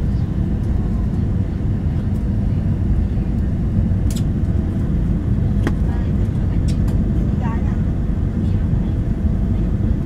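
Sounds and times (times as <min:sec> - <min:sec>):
jet engine rumble in cabin: 0:00.0 - 0:10.0.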